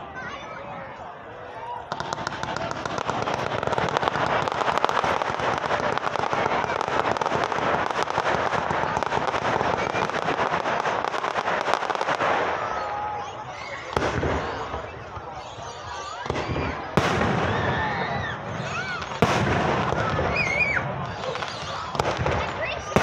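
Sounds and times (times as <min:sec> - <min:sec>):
fireworks crackling: 0:00.0 - 0:23.0
firework bang: 0:01.9 - 0:23.0
firework fountains spraying sparks: 0:01.9 - 0:23.0.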